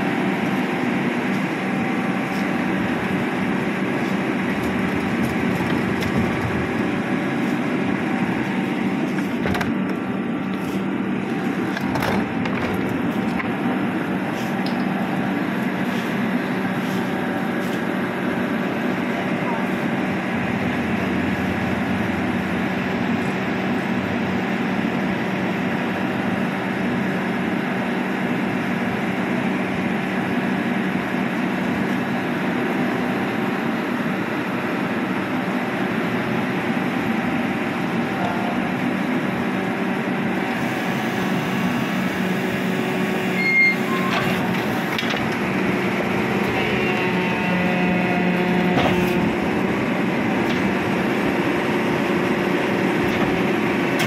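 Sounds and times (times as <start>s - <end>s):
garbage truck hydraulics humming: 0.0s - 54.0s.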